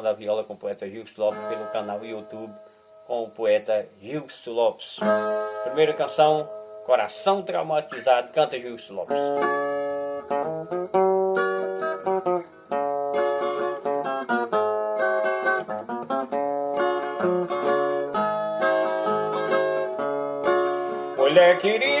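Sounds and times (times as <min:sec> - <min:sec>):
steel-string guitar plucked melody: 0:01.3 - 0:02.6, 0:05.0 - 0:08.4, 0:09.1 - 0:22.0.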